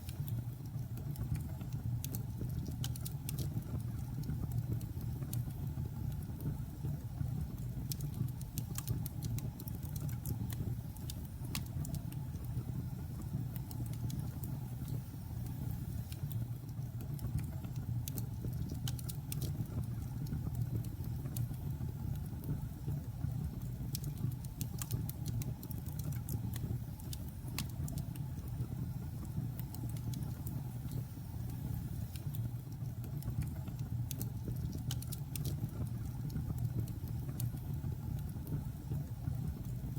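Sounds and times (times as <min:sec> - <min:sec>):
wood crackling and popping: 0:00.0 - 0:12.6, 0:13.2 - 0:22.6, 0:23.2 - 0:39.9.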